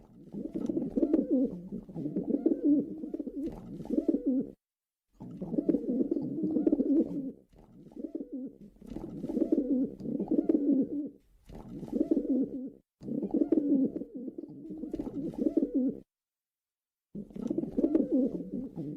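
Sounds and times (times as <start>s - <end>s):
pigeons cooing: 0.0s - 4.6s, 5.2s - 16.1s, 17.2s - 18.9s.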